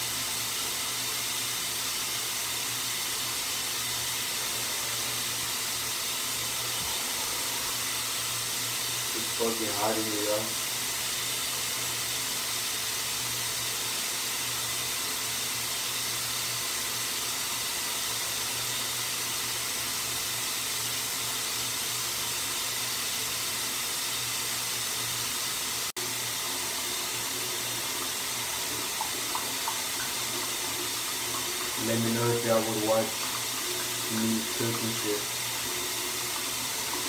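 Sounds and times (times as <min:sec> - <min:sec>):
water running: 0:00.0 - 0:37.0.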